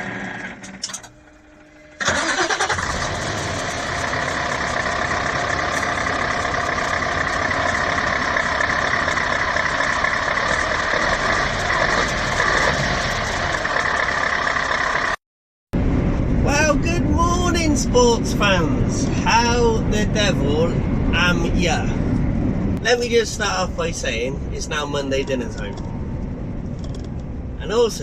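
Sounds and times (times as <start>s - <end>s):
truck diesel engine: 0.0s - 15.2s, 15.8s - 28.0s.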